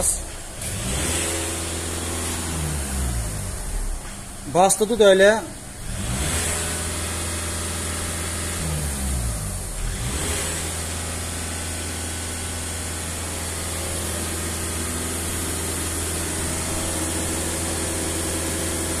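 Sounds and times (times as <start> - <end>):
diesel engine revving and idling: 0.0 - 19.0.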